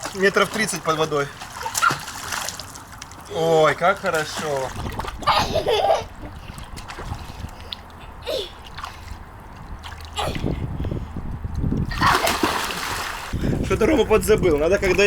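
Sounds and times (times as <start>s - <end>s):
pool water splashing: 0.0s - 10.5s, 11.8s - 15.0s.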